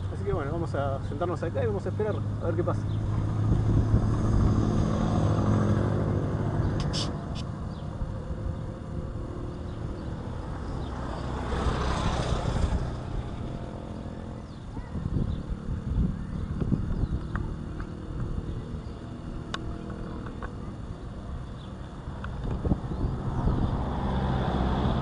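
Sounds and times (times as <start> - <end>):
vehicle engine passing: 0.0 - 25.0.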